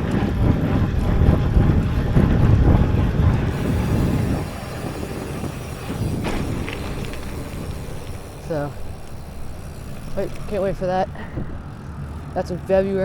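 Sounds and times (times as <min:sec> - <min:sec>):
bicycle riding noise: 0:00.0 - 0:13.0
wind buffeting microphone: 0:00.0 - 0:13.0.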